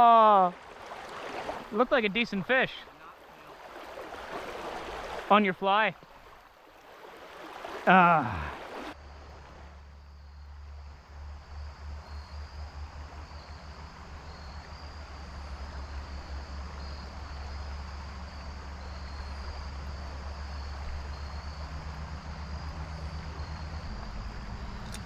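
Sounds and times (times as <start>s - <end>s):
creek water running: 0.0s - 25.0s.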